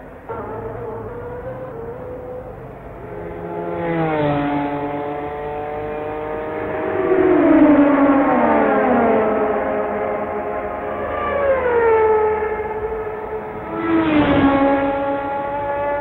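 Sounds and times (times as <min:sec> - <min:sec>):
race cars passing at full speed: 0:00.0 - 0:16.0.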